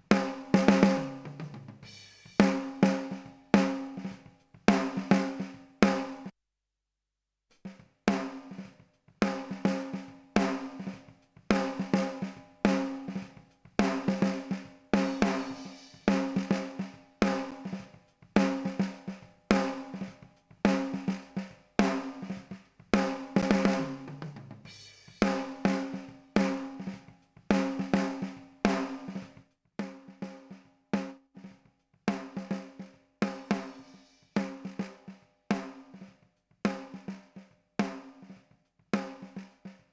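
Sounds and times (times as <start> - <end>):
drum kit playing a beat: 0.0 - 6.3, 7.5 - 39.9.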